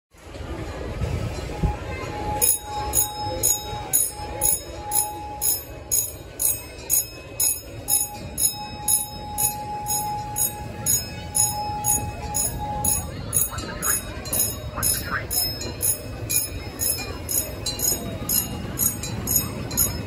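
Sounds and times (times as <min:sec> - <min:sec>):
crossing signal bell ringing: 0:01.4 - 0:20.0.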